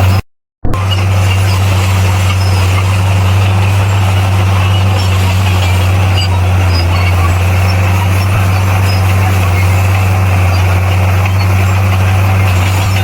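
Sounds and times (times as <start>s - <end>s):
heavy diesel engine droning: 0.0s - 13.0s.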